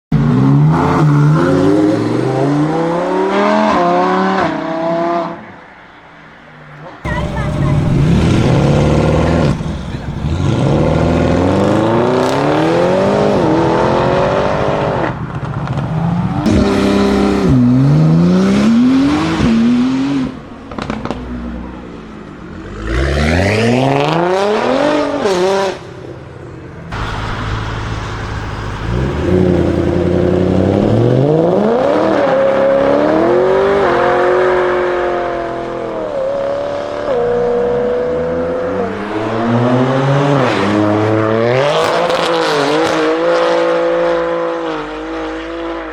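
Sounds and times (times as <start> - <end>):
car engines revving: 0.1 - 5.9, 6.6 - 45.9.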